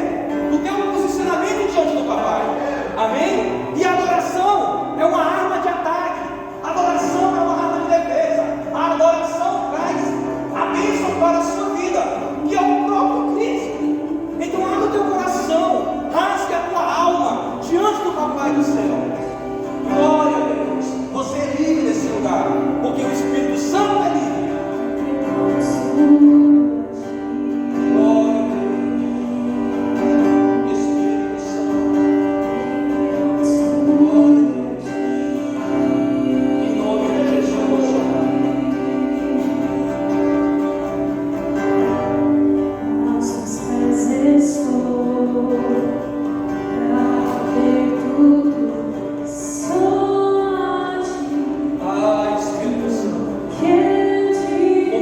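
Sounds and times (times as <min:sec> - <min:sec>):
worship music with singing: 0:00.0 - 0:55.0.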